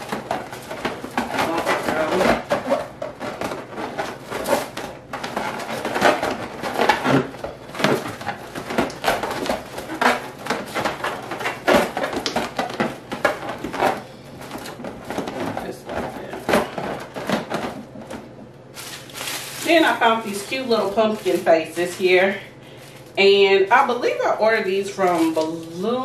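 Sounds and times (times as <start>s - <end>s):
balloons squeaking and rubbing: 0.0s - 26.0s.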